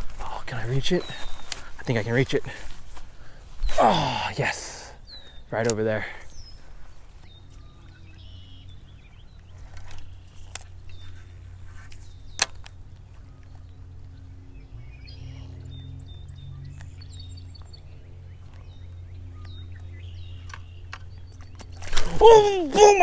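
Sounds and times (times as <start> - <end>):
birds chirping: 0.0 - 23.0
low steady hum: 0.0 - 23.0.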